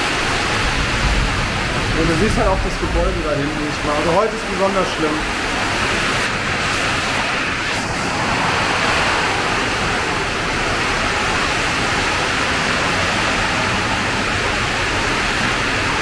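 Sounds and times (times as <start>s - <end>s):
heavy rain downpour: 0.0s - 16.0s.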